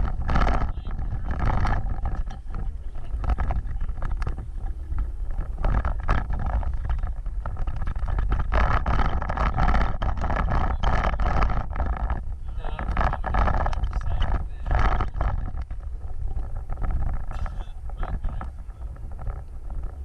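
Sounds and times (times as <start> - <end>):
knocks and rattles: 0.0 - 20.0
off-road vehicle low rumble: 0.0 - 20.0.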